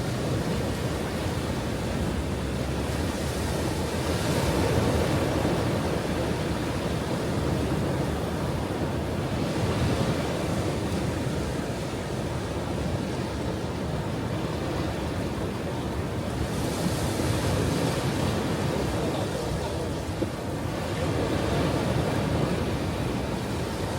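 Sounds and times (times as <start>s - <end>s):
ocean waves breaking on shore: 0.0s - 23.9s.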